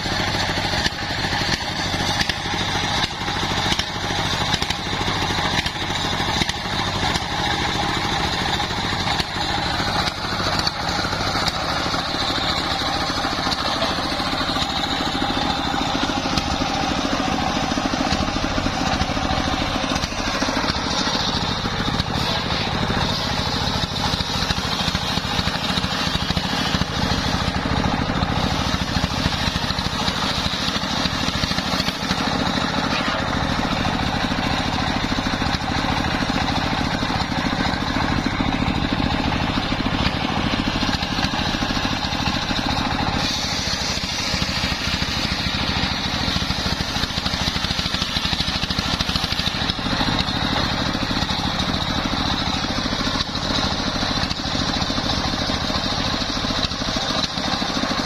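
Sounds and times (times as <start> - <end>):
saw blade rasping through wood: 0.0 - 35.2, 40.0 - 51.6
stationary engine running: 0.0 - 58.0.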